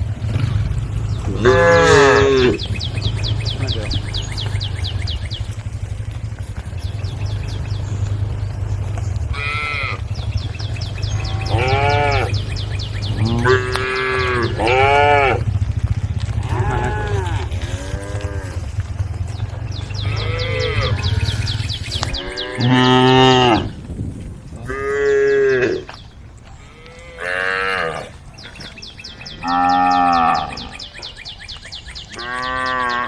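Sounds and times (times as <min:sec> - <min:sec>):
cows mooing: 0:00.0 - 0:23.8, 0:24.6 - 0:26.0, 0:26.6 - 0:28.3, 0:29.2 - 0:31.1, 0:32.1 - 0:33.0.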